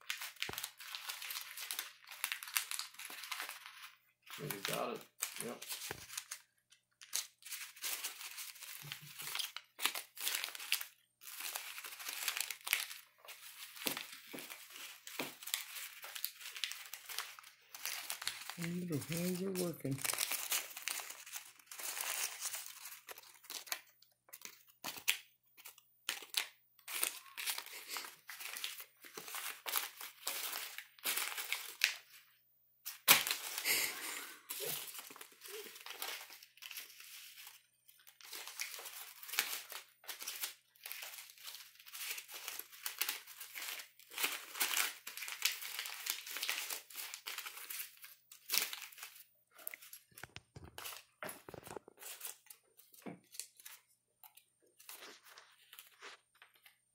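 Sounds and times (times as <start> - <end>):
paper banknotes crinkling: 0.0 - 56.9.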